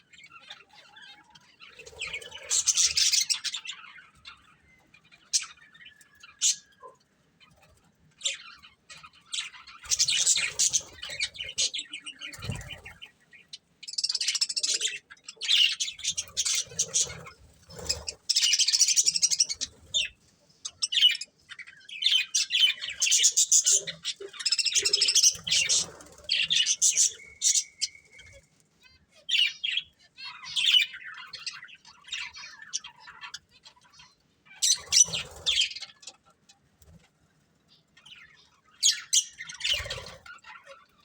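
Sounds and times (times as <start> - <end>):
budgerigars chirping and chattering: 0.0 - 41.0.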